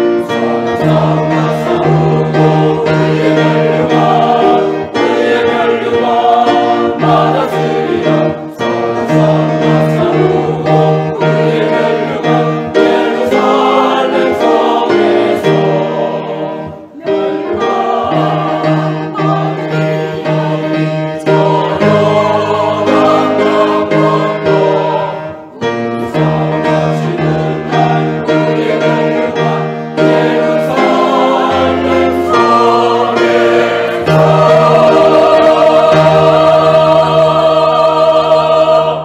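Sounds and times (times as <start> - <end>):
choir singing: 0.0 - 39.0
instrumental accompaniment: 0.0 - 39.0.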